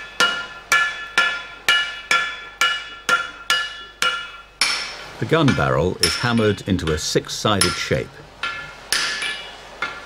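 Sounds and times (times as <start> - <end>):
hammer striking metal on anvil: 0.0 - 10.0.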